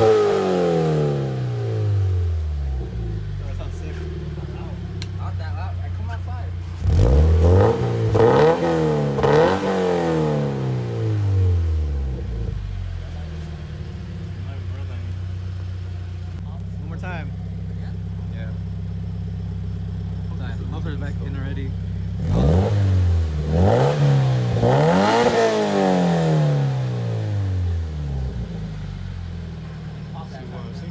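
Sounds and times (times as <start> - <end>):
car engine revving and idling: 0.0 - 30.9.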